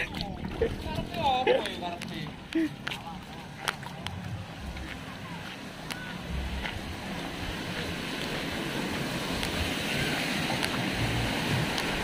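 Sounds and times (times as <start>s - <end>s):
low engine rumble: 0.0s - 12.0s
tyres splashing through floodwater: 0.0s - 12.0s.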